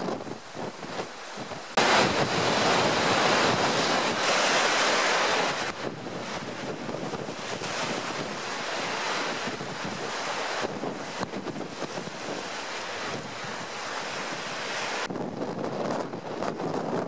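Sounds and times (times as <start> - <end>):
waves breaking: 0.0 - 17.0
wind buffeting microphone: 0.0 - 17.0.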